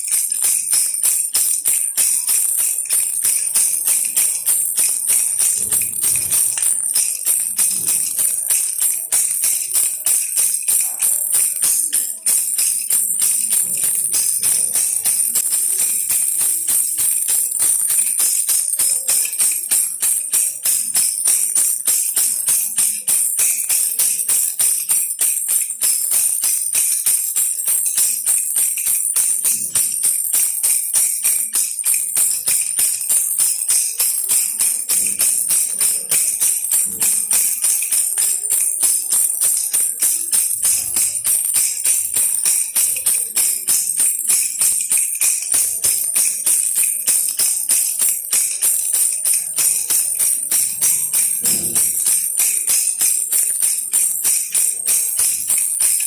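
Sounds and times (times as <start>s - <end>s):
baby rattle toy shaken: 0.0s - 56.0s.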